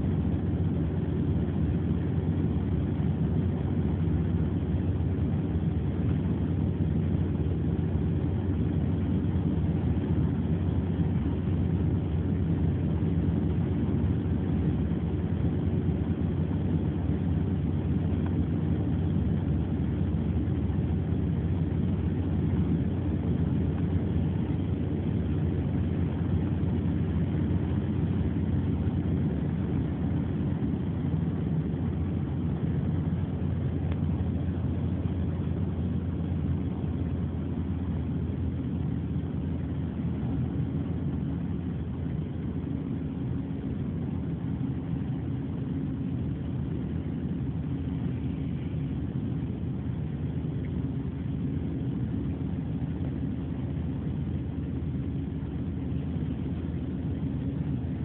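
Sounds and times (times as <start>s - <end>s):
car interior engine and road rumble: 0.0s - 58.0s.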